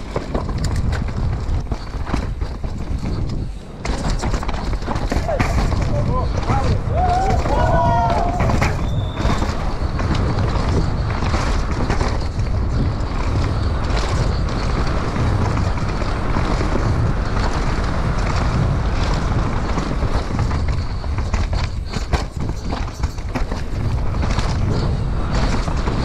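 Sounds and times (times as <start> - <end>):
bike knocking over rocks: 0.0 - 26.0
bike rattling: 0.0 - 26.0
tyres rumbling over dirt: 0.0 - 26.0
wind buffeting microphone: 0.0 - 26.0.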